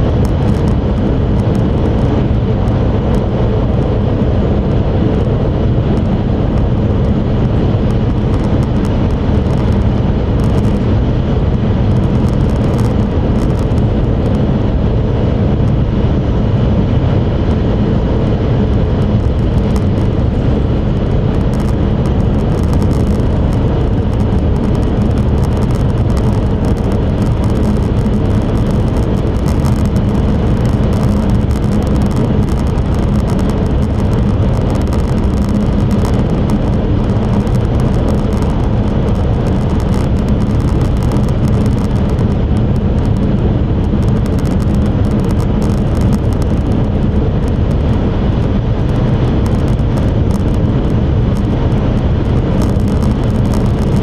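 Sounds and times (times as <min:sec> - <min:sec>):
train cabin running rumble: 0:00.0 - 0:54.0.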